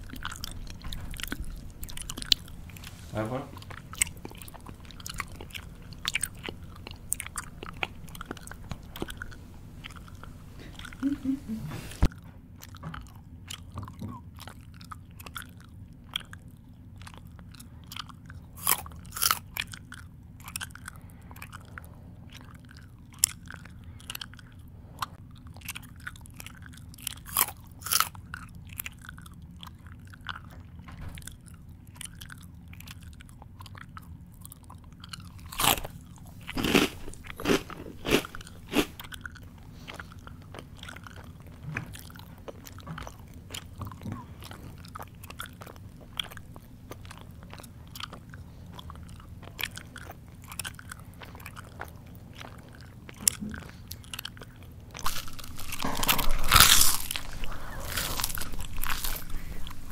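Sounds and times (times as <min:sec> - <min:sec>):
person chewing with open mouth: 0:00.0 - 0:59.9.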